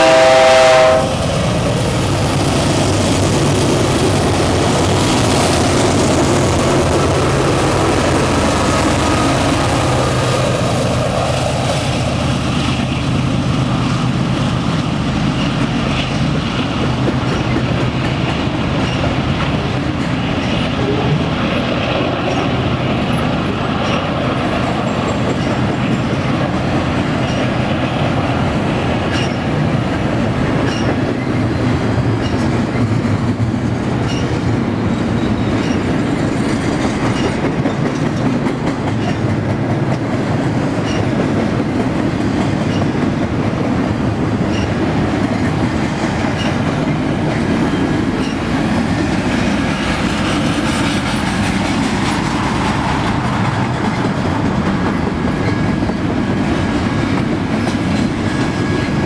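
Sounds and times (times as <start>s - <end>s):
diesel locomotives passing: 0.0s - 59.0s
train cars rumbling: 0.0s - 59.0s.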